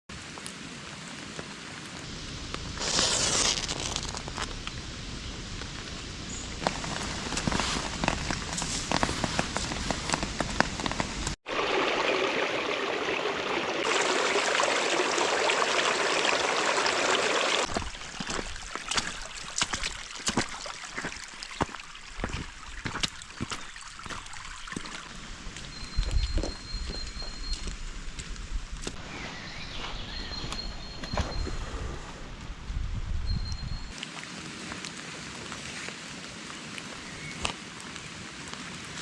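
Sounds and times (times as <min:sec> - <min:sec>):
rain falling: 0:00.1 - 0:28.9, 0:33.9 - 0:39.0.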